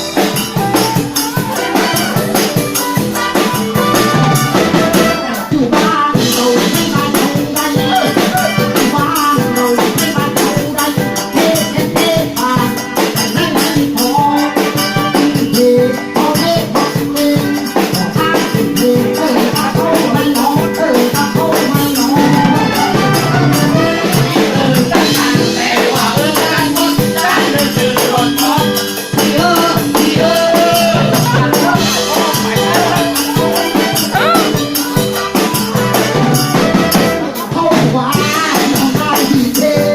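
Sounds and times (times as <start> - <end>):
live band playing upbeat song: 0.0 - 39.9
shaken rattle beat: 0.0 - 39.9.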